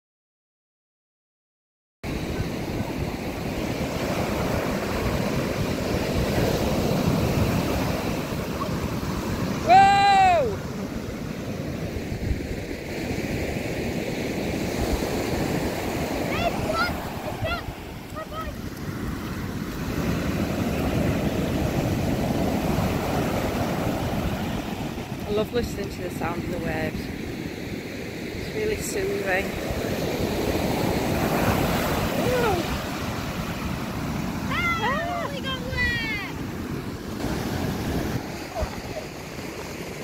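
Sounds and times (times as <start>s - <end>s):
wind buffeting microphone: 2.1s - 27.5s, 28.1s - 40.0s
surf breaking on shore: 2.1s - 40.0s.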